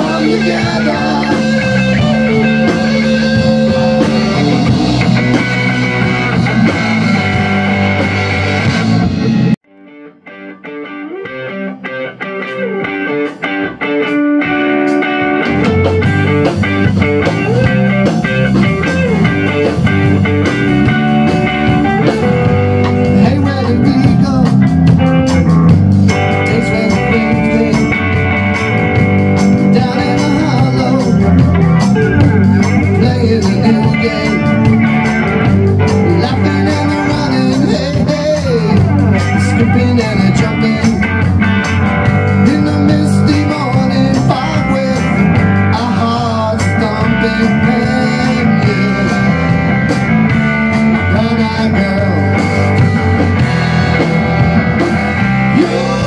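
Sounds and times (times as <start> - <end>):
lone electric guitar line: 0.0 - 56.0
rock band playing live: 0.0 - 56.0.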